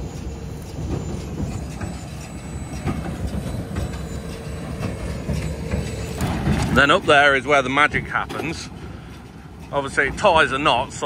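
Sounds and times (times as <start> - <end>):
baler rumbling and clattering: 0.0 - 11.0.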